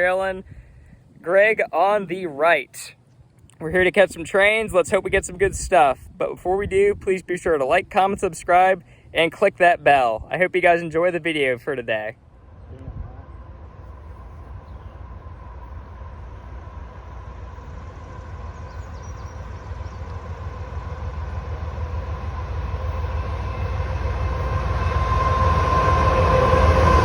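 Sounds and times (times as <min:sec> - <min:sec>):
train rumbling with whine: 0:00.0 - 0:27.0.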